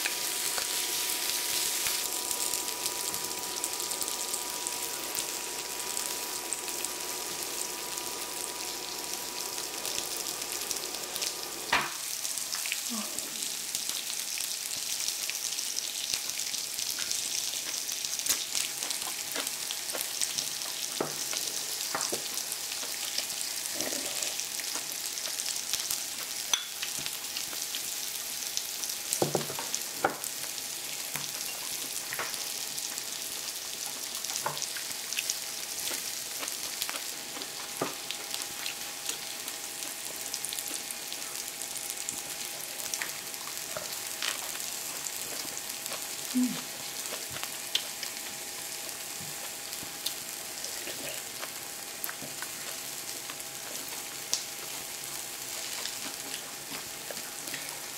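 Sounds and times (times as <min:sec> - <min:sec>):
meat sizzling on a grill pan: 0:00.0 - 0:57.9.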